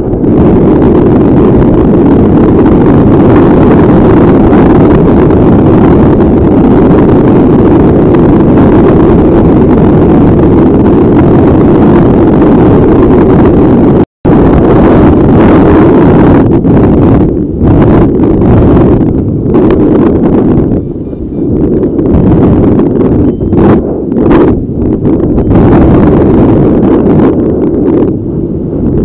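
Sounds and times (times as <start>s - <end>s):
wind buffeting on microphone: 0.0s - 29.0s.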